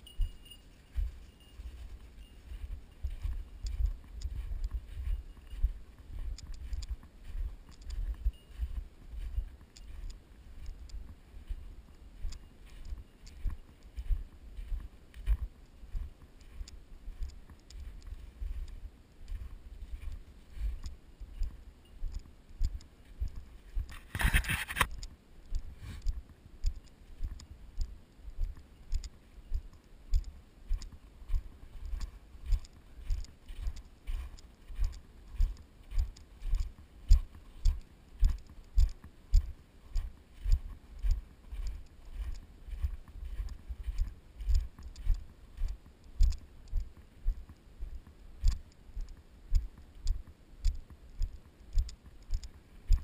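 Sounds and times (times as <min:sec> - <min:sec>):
footsteps on grass and snow: 0:00.0 - 0:53.0.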